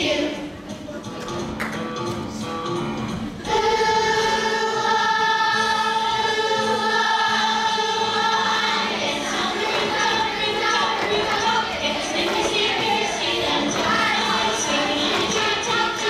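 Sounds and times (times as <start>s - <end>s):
children's choir singing: 0.0s - 1.1s, 3.4s - 16.0s.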